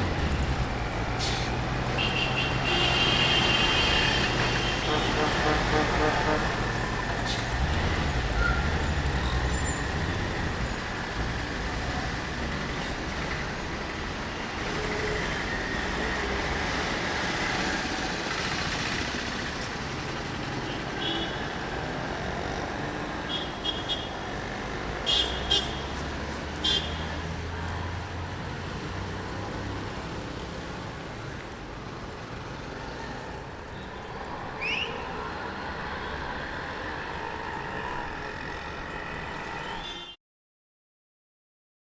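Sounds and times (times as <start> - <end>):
passing road traffic: 0.0 - 40.2.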